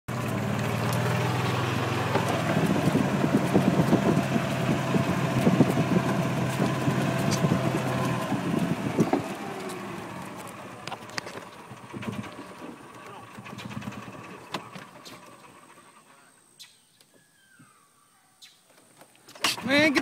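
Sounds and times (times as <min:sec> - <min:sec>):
cart body rattling: 0:00.1 - 0:16.0, 0:19.3 - 0:20.0
golf cart motor hum: 0:00.1 - 0:17.9.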